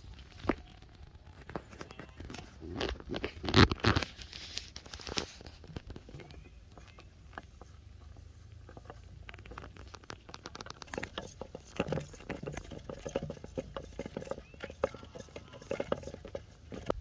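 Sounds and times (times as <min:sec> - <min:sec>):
string rustling against plastic bottle: 0:00.0 - 0:17.0.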